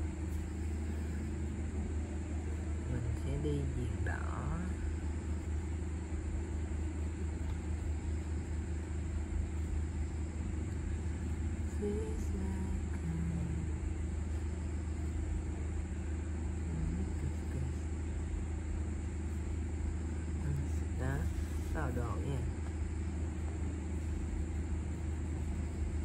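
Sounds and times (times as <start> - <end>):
low background hum: 0.0 - 26.0
thin high whine: 0.0 - 26.0.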